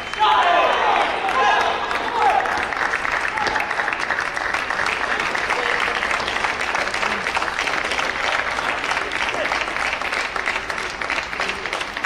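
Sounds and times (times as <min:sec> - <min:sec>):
spectators applauding: 0:00.0 - 0:12.0.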